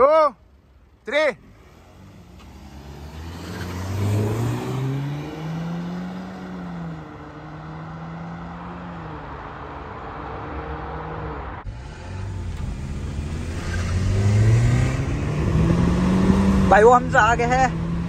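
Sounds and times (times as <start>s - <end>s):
car engine accelerating hard: 1.6s - 18.0s.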